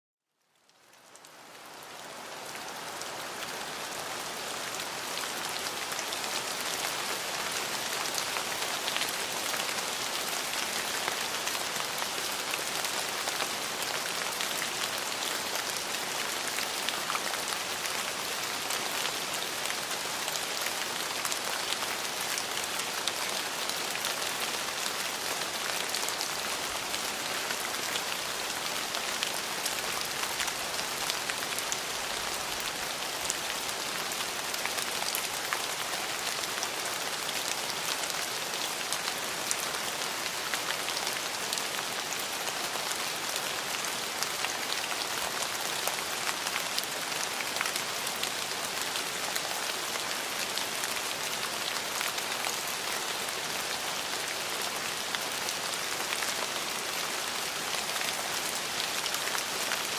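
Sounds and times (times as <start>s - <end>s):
steady rain falling: 0.2s - 59.9s.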